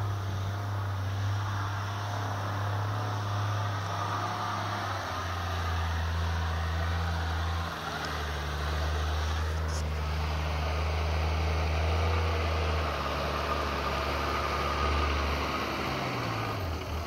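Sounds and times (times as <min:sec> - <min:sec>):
vehicle engine at low revs: 0:00.0 - 0:17.0.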